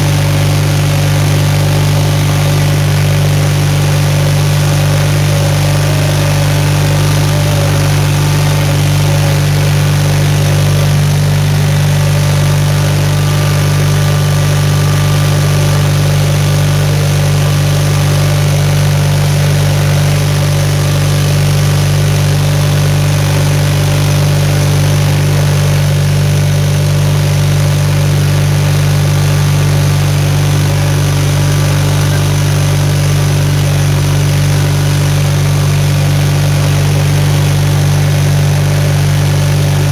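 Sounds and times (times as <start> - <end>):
engine droning from inside cab: 0.0 - 39.9.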